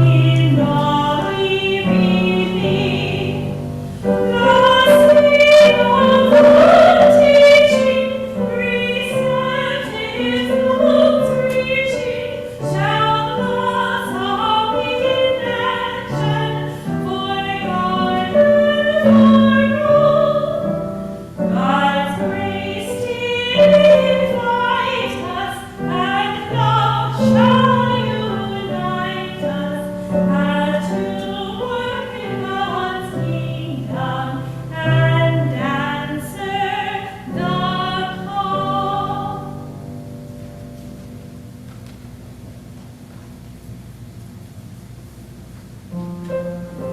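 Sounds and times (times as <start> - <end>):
person singing a hymn: 0.0 - 40.0.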